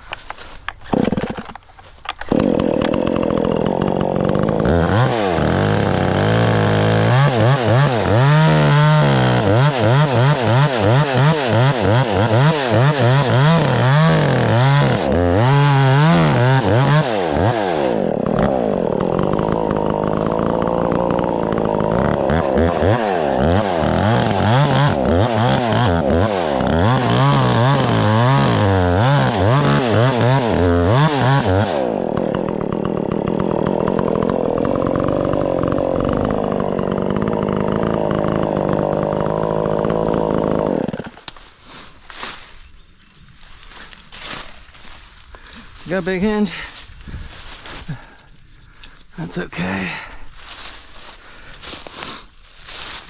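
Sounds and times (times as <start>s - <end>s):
chainsaw cutting into tree trunk: 0.1s - 42.6s, 43.6s - 48.3s, 50.4s - 53.0s.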